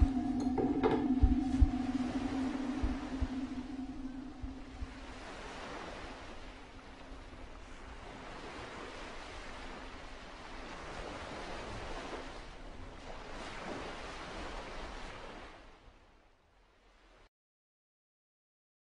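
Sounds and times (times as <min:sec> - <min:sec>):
sea waves washing onto beach: 0:00.0 - 0:15.9.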